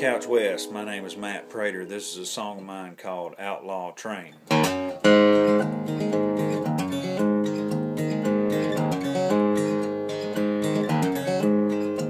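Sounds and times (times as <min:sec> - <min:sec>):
acoustic guitar strumming: 0:00.0 - 0:03.0, 0:04.3 - 0:12.0.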